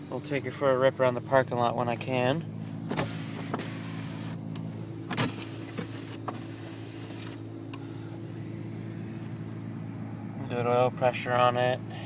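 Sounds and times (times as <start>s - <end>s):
car engine idling: 0.0s - 12.0s
heater fan running: 1.4s - 12.0s.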